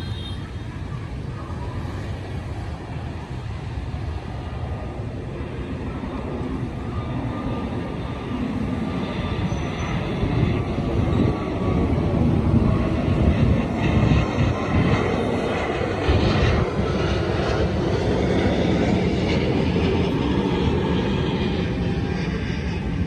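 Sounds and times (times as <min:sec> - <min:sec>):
jet airliner engines rumbling: 0:00.0 - 0:23.0.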